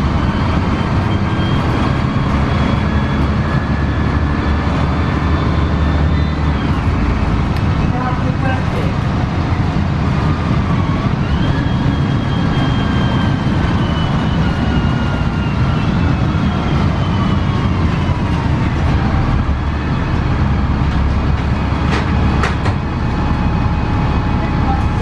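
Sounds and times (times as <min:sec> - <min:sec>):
bus drivetrain rumbling: 0:00.0 - 0:25.0
thin transmission whine: 0:00.0 - 0:25.0.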